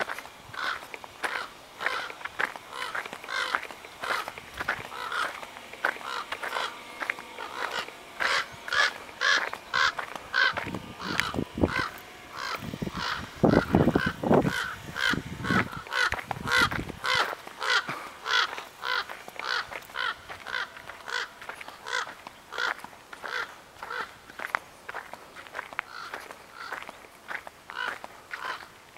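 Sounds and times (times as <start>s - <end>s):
footsteps crunching on wood chips: 0.0s - 28.9s.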